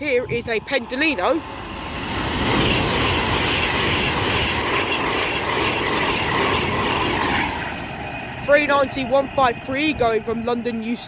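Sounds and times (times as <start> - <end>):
electric train passing: 0.0 - 11.0.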